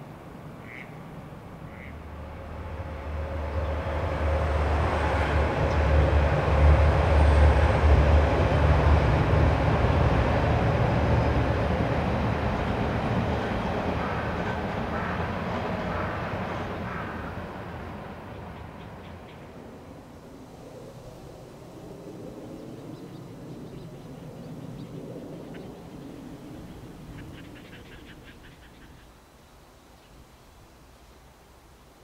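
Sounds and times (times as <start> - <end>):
train passing: 0.0 - 29.0.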